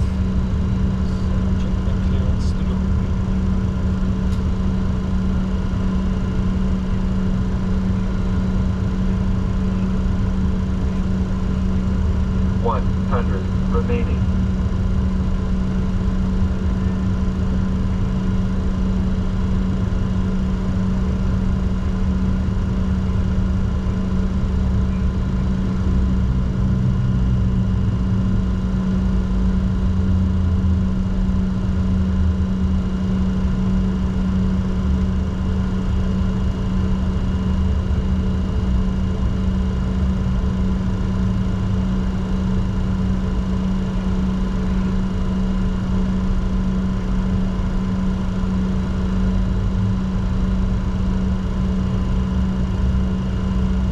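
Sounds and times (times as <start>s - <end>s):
jet engines droning in cockpit: 0.0s - 53.9s.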